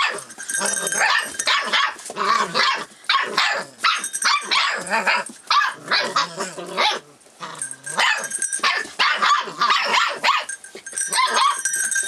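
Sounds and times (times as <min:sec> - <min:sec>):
puppies barking and yipping: 0:00.0 - 0:12.0.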